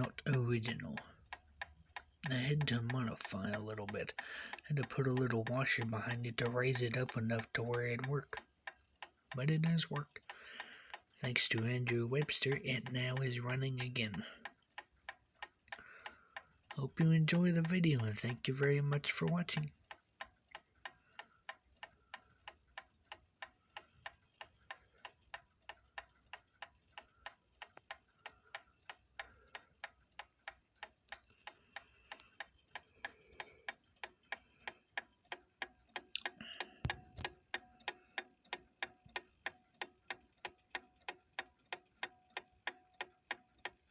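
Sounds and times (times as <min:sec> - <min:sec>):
clock ticking: 0:00.0 - 0:43.9.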